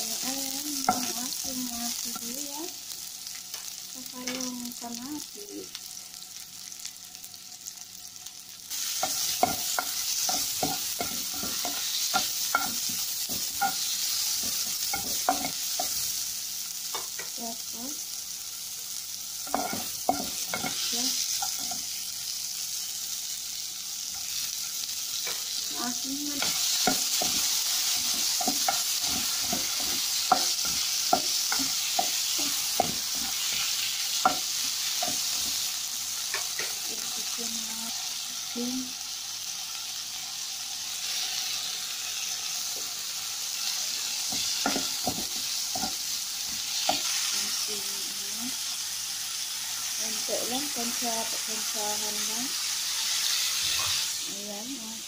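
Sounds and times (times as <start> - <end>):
food sizzling in oil: 0.0 - 55.0.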